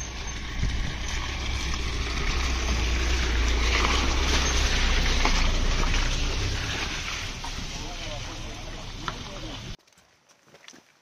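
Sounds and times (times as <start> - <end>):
diesel engine driving past: 0.0 - 9.8.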